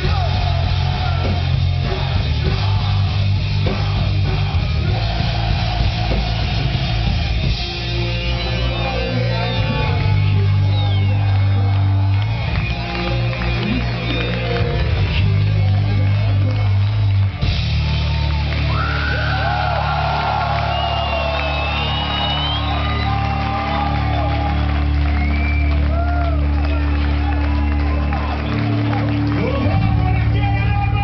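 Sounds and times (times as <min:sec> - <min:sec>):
live metal band playing: 0:00.0 - 0:20.7, 0:22.6 - 0:31.0
crowd shouting and cheering: 0:00.0 - 0:31.0.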